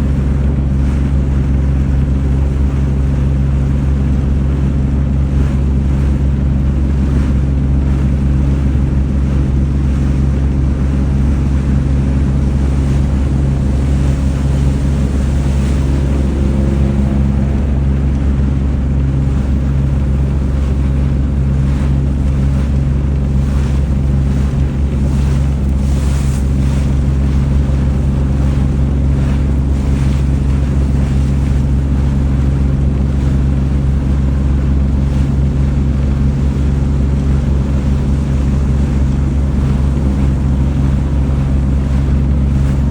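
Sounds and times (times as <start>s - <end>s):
boat engine droning: 0.0s - 42.9s
wind and water rushing: 0.0s - 42.9s.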